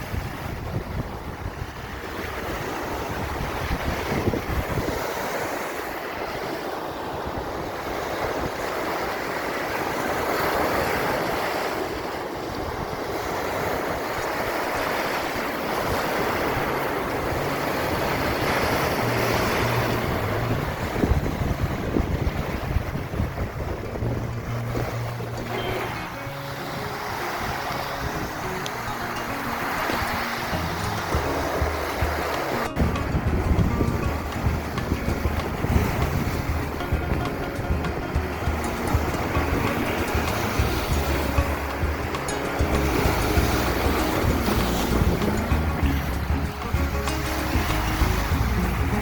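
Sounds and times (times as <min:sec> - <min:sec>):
waves breaking on beach: 0:00.0 - 0:49.0
wind buffeting microphone: 0:00.0 - 0:49.0.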